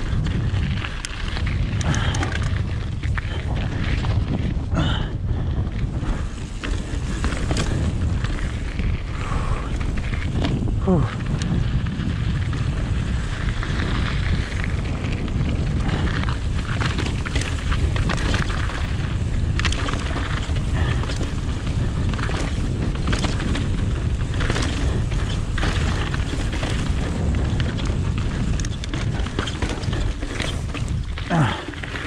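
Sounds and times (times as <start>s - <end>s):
bike knocking and rattling: 0.0s - 32.0s
wind rumble on microphone: 0.0s - 32.0s
tyres crunching on gravel: 6.1s - 32.0s.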